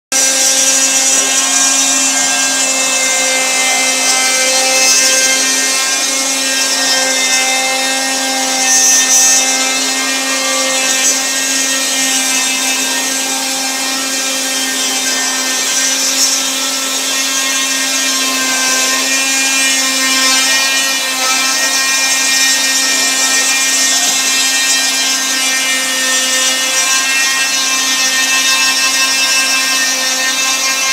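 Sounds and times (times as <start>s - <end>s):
router spindle whine: 0.1s - 30.9s.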